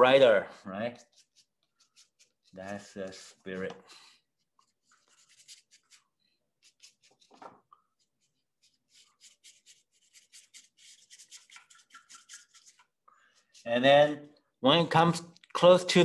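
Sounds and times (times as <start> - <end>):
paintbrush swishing on paper: 0.8 - 14.2.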